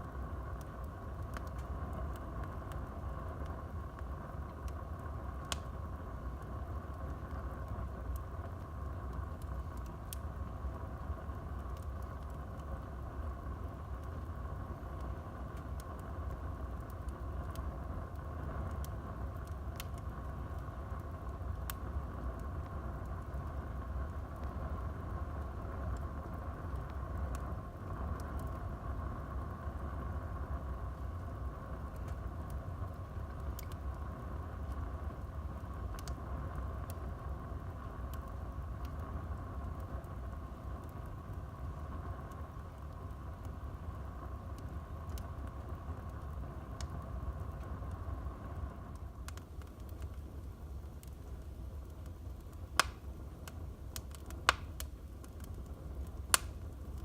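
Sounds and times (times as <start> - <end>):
fire crackling and popping: 0.0 - 57.0
fire rushing: 0.0 - 57.0
flames rumbling: 0.0 - 57.0.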